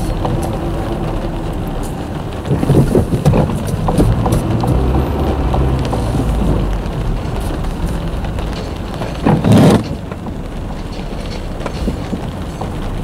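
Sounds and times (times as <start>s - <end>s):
low car rumble: 0.0s - 13.0s
rain tapping on car windshield: 0.0s - 13.0s.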